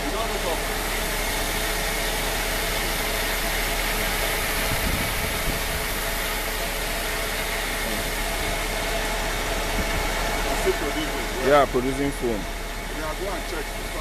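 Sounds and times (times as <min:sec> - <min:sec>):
fire truck engine and pump running: 0:00.0 - 0:14.0.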